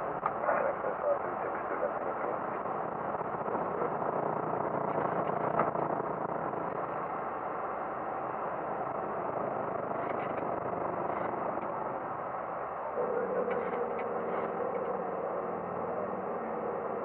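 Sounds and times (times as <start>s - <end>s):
jet engines and airflow rushing: 0.0s - 17.0s.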